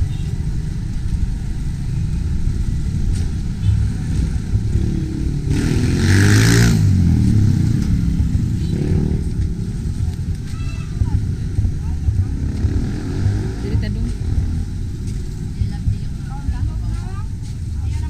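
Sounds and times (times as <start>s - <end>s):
street traffic rumbling: 0.0s - 18.0s.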